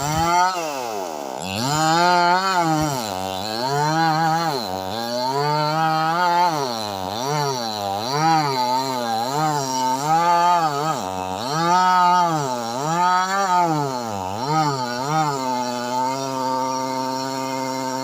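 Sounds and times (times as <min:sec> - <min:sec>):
chainsaw cutting hard wood: 0:00.0 - 0:18.0.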